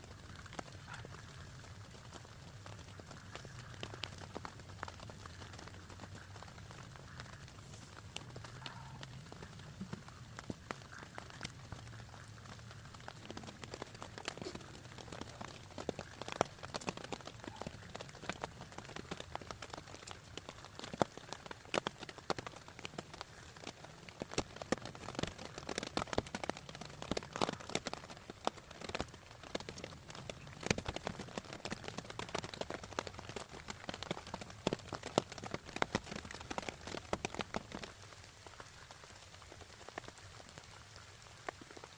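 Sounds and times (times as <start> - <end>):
close raindrop strikes: 0.0 - 41.9
rain falling: 0.0 - 41.9.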